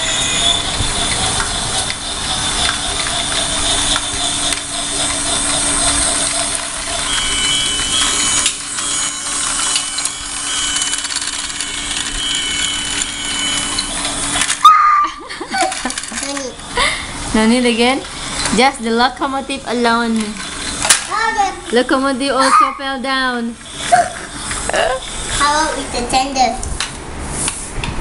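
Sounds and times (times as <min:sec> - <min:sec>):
toy train motor whirring: 0:00.0 - 0:26.7.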